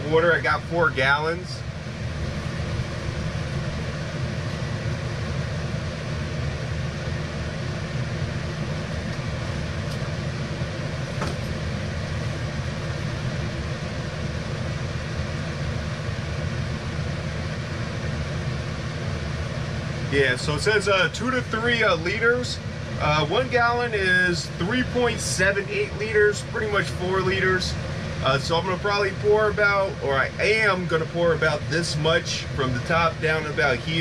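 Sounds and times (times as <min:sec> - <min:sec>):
low mechanical drone: 0:00.0 - 0:34.0.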